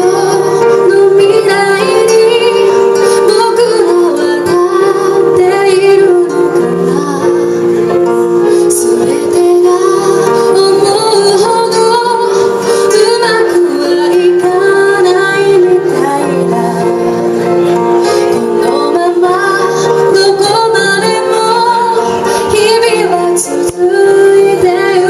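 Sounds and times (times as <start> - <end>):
sustained instrumental backing: 0.0 - 25.0
woman singing: 0.0 - 25.0.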